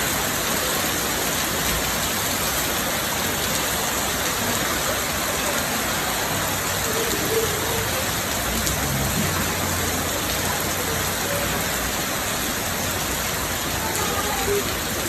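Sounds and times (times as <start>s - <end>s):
rain falling on surfaces: 0.0s - 15.0s.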